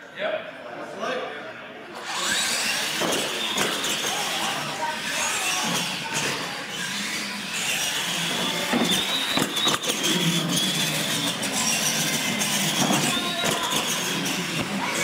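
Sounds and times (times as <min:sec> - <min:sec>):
tyre noise on concrete: 0:02.8 - 0:15.0.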